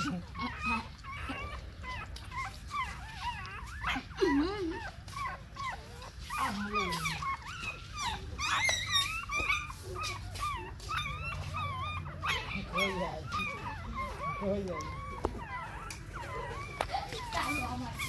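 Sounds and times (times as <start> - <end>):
puppies squeaking and whimpering: 0.0 - 18.0.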